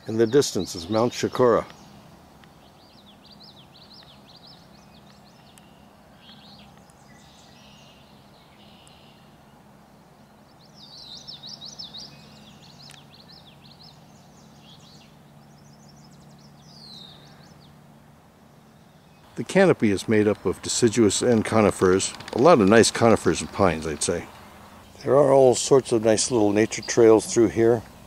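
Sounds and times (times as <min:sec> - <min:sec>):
songbirds warbling: 0:00.0 - 0:28.0.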